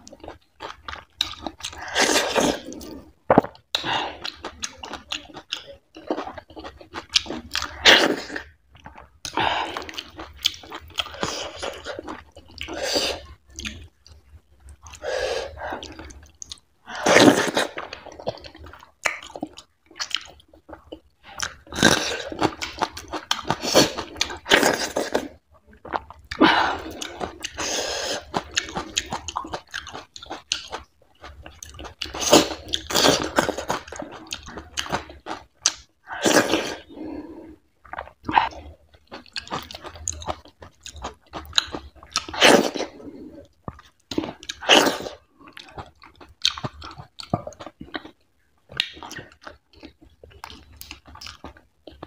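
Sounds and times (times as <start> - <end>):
close chewing of food: 0.0 - 52.0.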